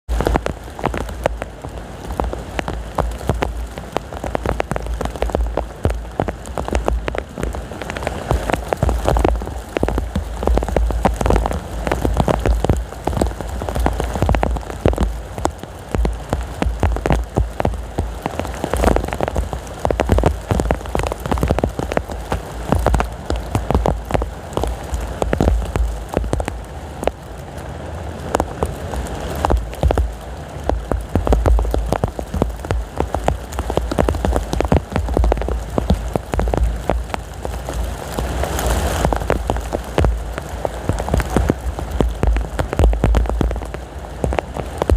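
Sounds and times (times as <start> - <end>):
heavy rain falling: 0.0 - 44.9
gusting wind rumble: 0.1 - 44.9.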